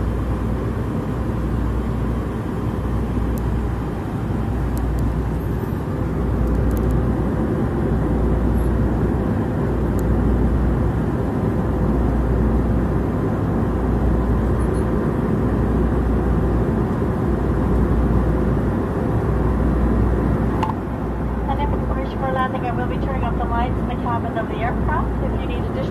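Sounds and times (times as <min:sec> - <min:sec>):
airliner cabin engine roar: 0:00.0 - 0:25.9
faint constant hum: 0:00.0 - 0:25.9.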